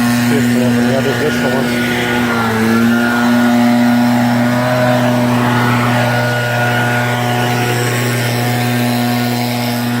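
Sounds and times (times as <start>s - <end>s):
small engine droning: 0.0s - 10.0s.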